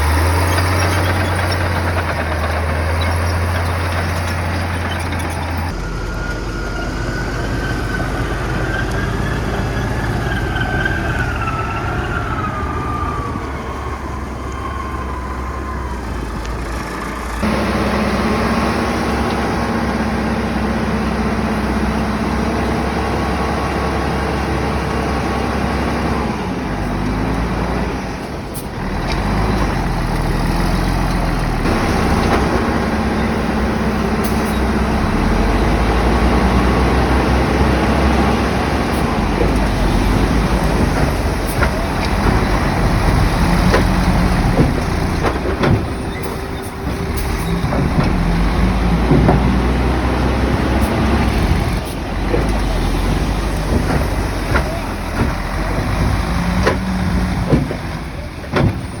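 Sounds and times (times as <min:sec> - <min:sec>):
bulldozer diesel engine running hard: 0:00.0 - 0:59.0.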